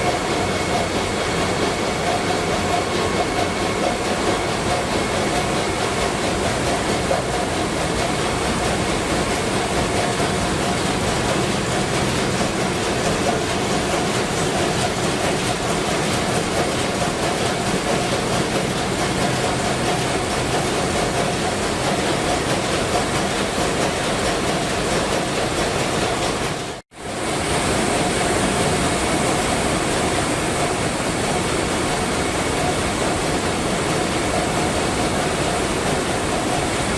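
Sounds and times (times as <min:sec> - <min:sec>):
large diesel engine running: 0:00.0 - 0:36.9.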